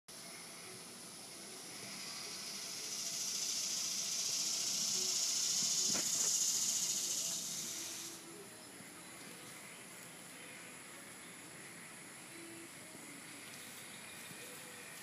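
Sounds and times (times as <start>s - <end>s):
high steady hiss: 0.1s - 15.0s.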